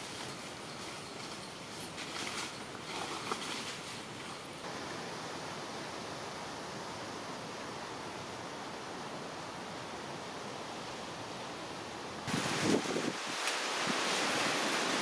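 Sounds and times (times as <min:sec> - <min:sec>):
steady hiss of noise: 0:00.0 - 0:15.0.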